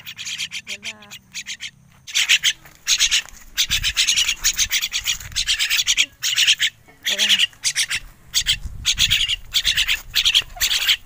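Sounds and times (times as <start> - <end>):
young birds begging calls: 0.0 - 11.0.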